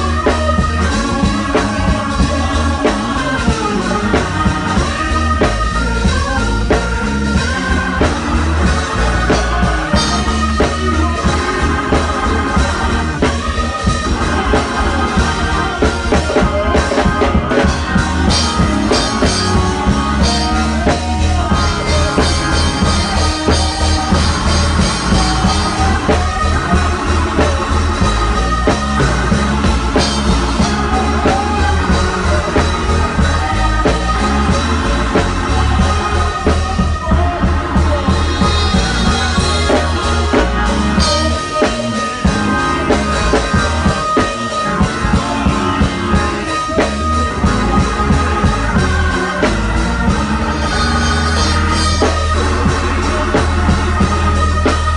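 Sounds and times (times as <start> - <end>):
drum kit playing: 0.0 - 54.9
organ playing: 0.0 - 54.9
person singing: 0.0 - 54.9.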